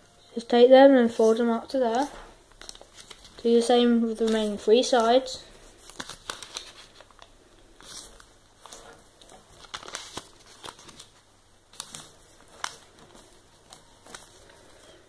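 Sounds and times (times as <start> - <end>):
paper rustling and crinkling: 1.1 - 15.0.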